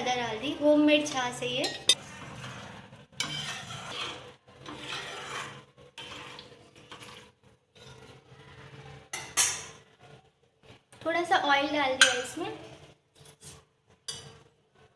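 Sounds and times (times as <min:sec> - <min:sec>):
metal spoon stirring in pot: 0:00.9 - 0:11.1, 0:11.9 - 0:14.9.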